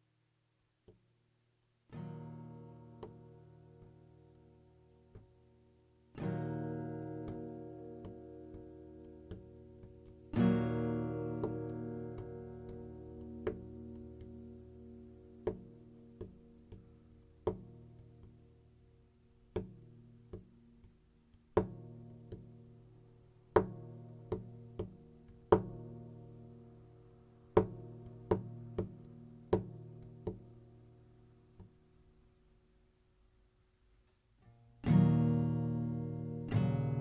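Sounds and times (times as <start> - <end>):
slow plucked guitar music: 1.9 - 32.3, 34.4 - 37.0.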